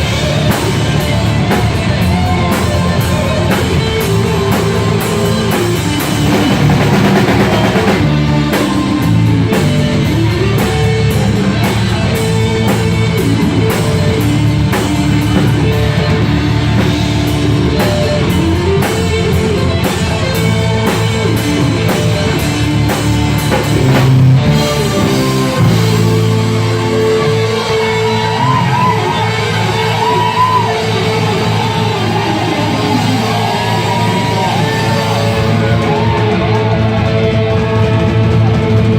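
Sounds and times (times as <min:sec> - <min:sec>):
lead guitar line: 0:00.0 - 0:38.9
rock band playing live: 0:00.0 - 0:38.9.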